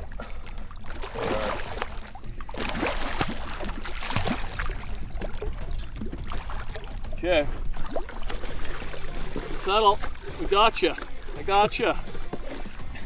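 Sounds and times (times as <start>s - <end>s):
fish thrashing and water splashing: 0.0s - 13.0s.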